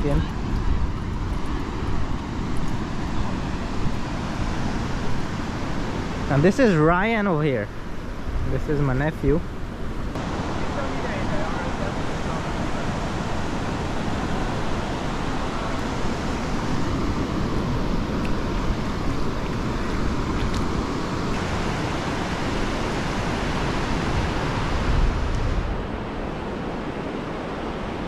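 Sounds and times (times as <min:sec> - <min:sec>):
wind buffeting microphone: 0:00.0 - 0:06.9, 0:07.6 - 0:28.0
surf washing on beach: 0:00.0 - 0:28.0.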